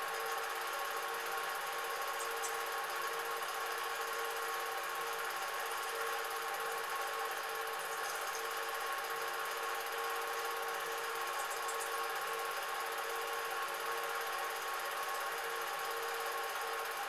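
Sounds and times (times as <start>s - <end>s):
film projector whirring: 0.0s - 17.0s.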